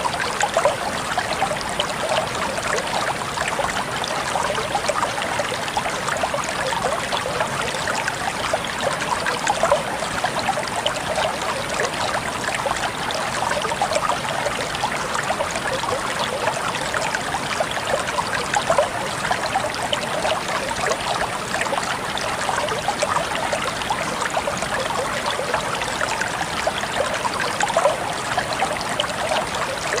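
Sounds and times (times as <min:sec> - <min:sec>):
stream babbling over rocks: 0:00.0 - 0:30.0.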